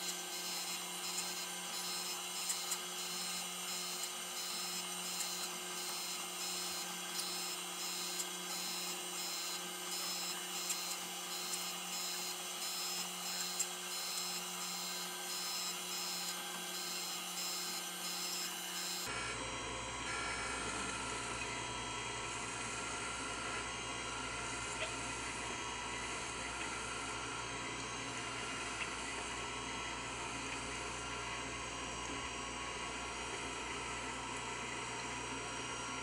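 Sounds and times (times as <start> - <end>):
motor hum: 0.0 - 36.0.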